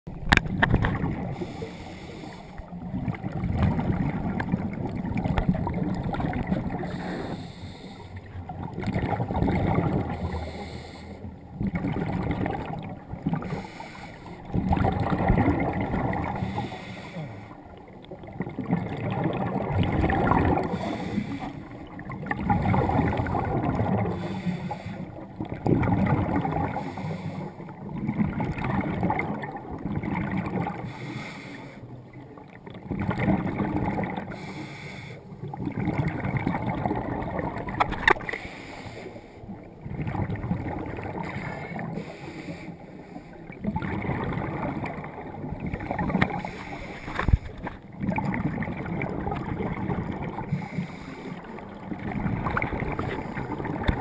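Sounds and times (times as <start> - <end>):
underwater exhaust bubbles: 0.1 - 54.0.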